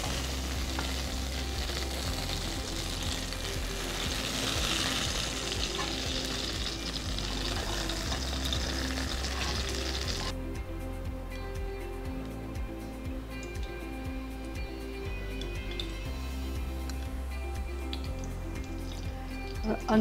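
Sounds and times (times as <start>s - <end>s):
eggplants sizzling in oil: 0.0s - 10.4s, 13.4s - 20.0s.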